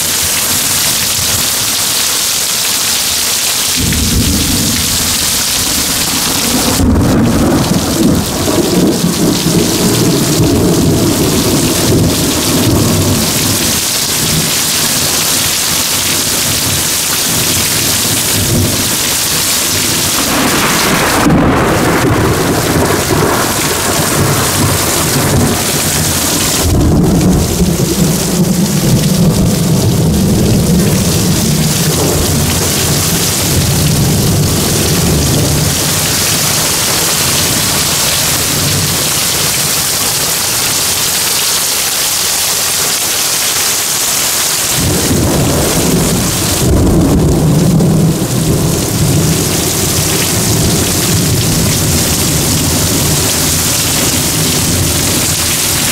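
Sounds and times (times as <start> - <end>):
heavy rain pouring: 0.0 - 55.9
low rumbles of thunder: 3.8 - 15.2, 16.4 - 39.6, 44.8 - 55.9.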